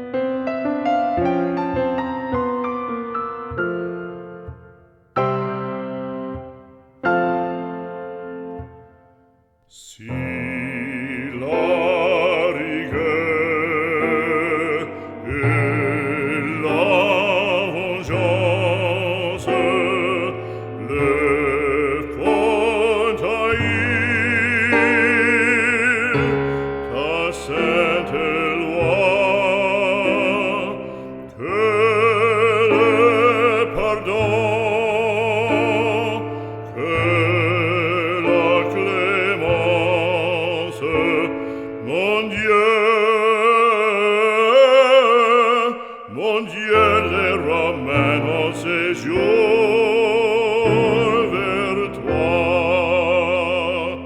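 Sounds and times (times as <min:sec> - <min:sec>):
instrumental accompaniment: 0:00.0 - 0:44.4
operatic singing: 0:09.7 - 0:54.0.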